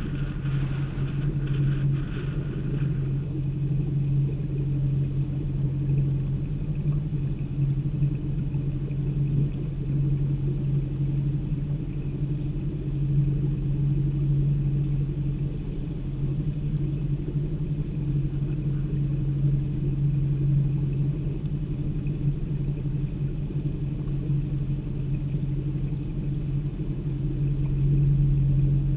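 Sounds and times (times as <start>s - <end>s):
boat motor running at low speed: 0.0s - 28.9s.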